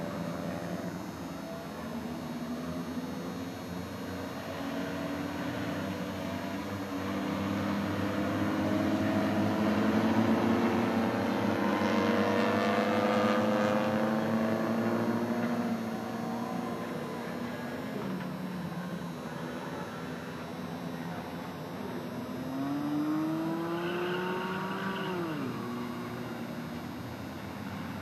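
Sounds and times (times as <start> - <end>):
race car engines revving: 4.3 - 28.0.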